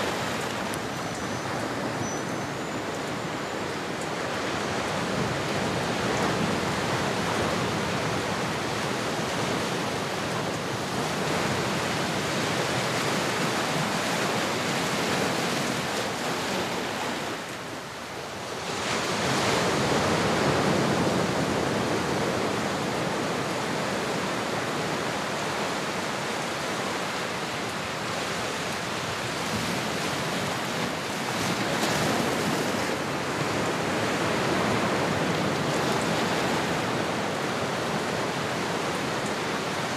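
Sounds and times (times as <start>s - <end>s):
ocean waves: 0.0s - 39.9s.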